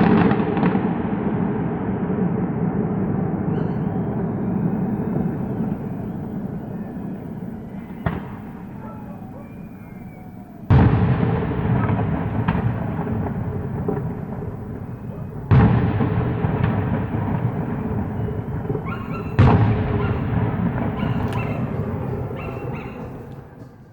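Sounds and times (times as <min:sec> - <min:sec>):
faint firework crackles: 0:00.0 - 0:23.9
firework shells bursting: 0:03.2 - 0:23.9.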